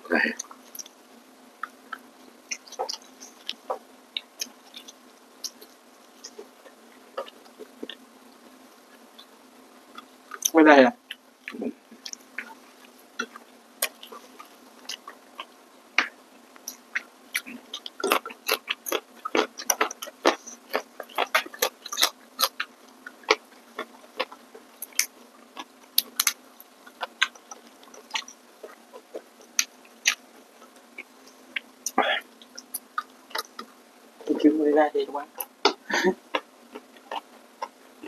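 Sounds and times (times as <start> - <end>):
faint steady hum: 0.0 - 38.0
crunchy chewing: 1.6 - 34.4, 35.3 - 37.8.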